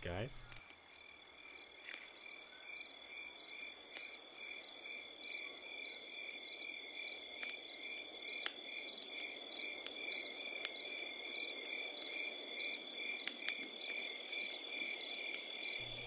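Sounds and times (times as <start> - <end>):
night insects chirping: 0.0 - 16.0
high insect drone: 0.9 - 16.0.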